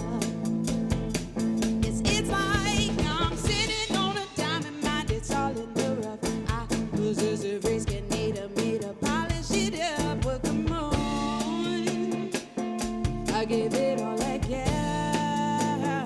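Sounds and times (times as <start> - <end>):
bass: 0.0 - 16.0
drum kit beat: 0.0 - 16.0.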